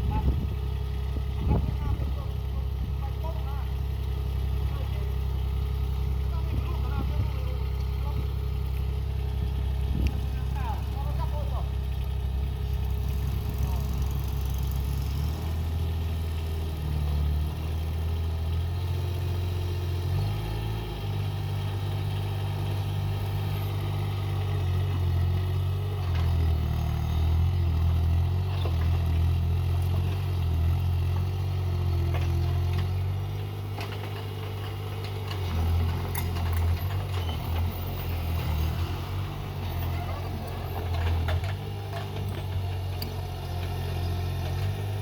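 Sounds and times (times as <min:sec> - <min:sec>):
excavator engine working: 0:00.0 - 0:45.0.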